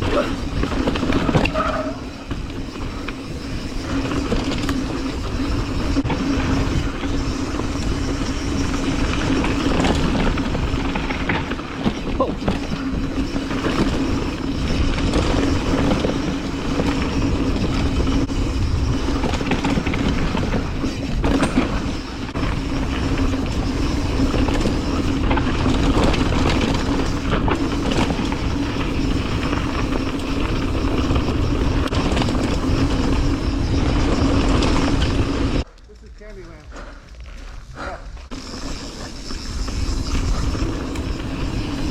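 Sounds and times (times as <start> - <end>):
bike rattling and knocking: 0.0 - 41.9
bike tyres on dirt: 0.0 - 41.9.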